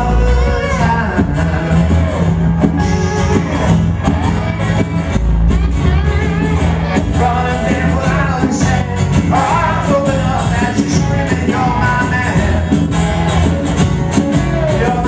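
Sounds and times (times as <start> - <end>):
live rock band with singer: 0.0 - 15.0.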